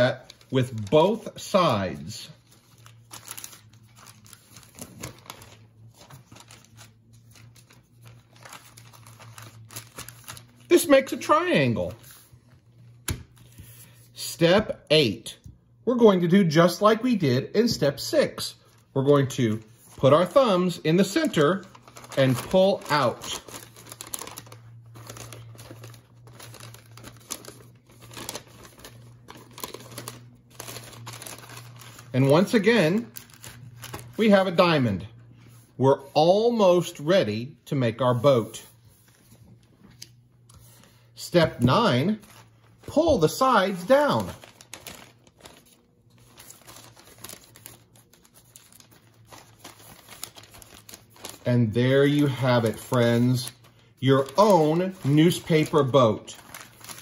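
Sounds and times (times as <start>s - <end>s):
newspaper rustling and crinkling: 0.0s - 14.1s, 18.5s - 37.1s, 38.0s - 57.0s.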